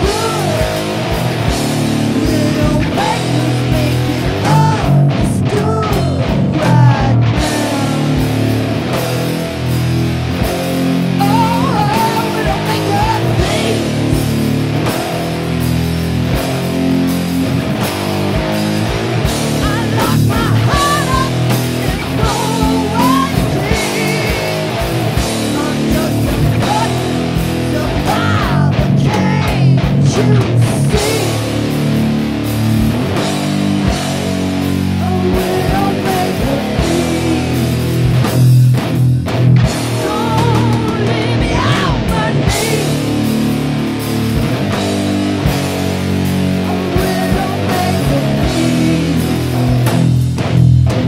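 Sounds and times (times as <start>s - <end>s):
bass: 0.0s - 51.0s
drums: 0.0s - 51.0s
electric guitar: 0.0s - 51.0s.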